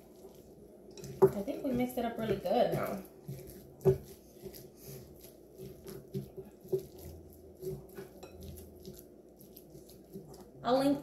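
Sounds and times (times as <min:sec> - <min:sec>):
spoon stirring dough in glass bowl: 0:00.0 - 0:11.0.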